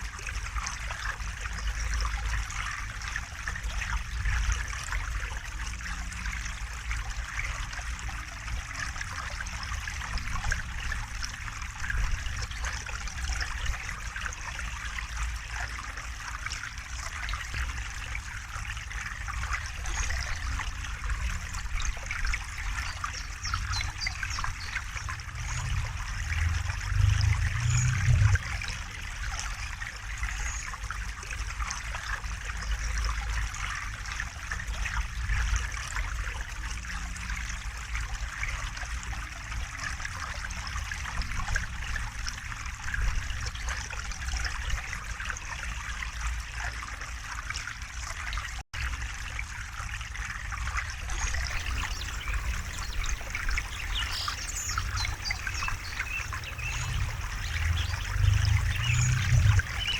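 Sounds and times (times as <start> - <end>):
river water flowing: 0.0 - 40.9, 51.2 - 59.9.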